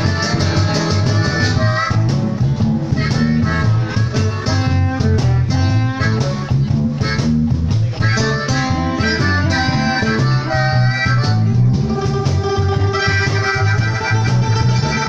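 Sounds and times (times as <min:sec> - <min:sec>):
bass guitar line: 0:00.0 - 0:15.0
cajon beat: 0:00.0 - 0:15.0
electric guitar: 0:00.0 - 0:15.0.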